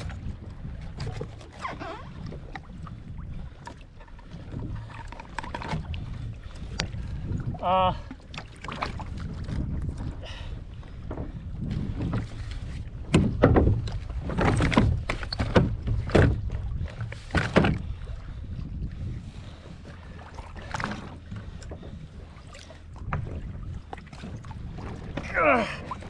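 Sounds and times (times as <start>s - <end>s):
water splashing against kayak: 0.0s - 26.0s
wind rumbling on microphone: 0.0s - 26.0s.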